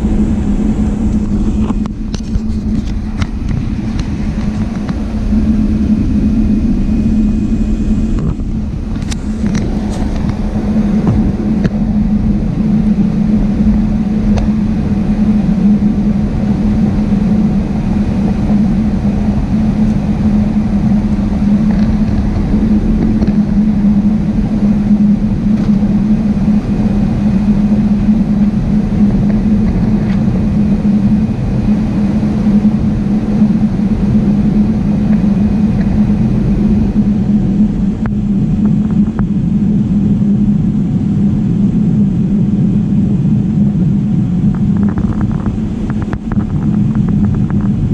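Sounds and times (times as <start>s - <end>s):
jet engine cabin drone: 0.0s - 47.9s.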